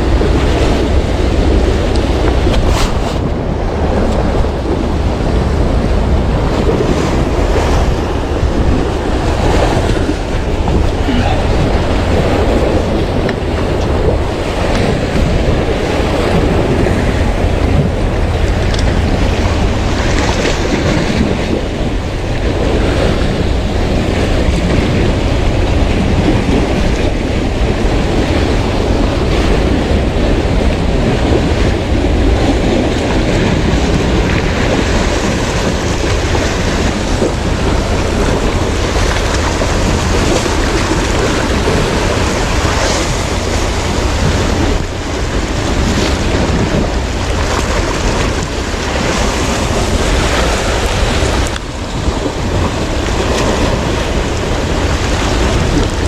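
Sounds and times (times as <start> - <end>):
sea waves washing: 0.0 - 56.0
wind buffeting microphone: 0.0 - 56.0.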